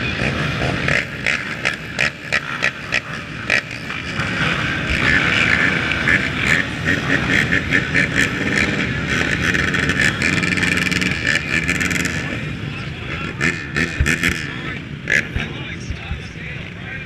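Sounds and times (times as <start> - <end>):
many atv engines running: 0.0 - 17.0.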